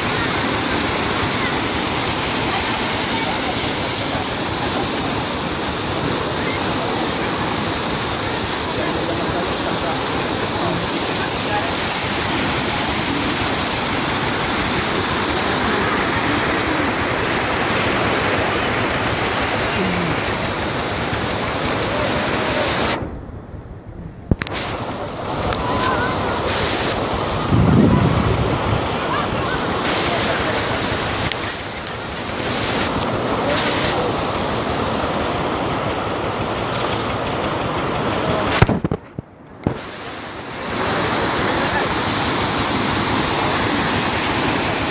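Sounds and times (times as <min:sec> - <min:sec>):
floodwater rushing: 0:00.0 - 0:23.3, 0:24.1 - 0:44.9.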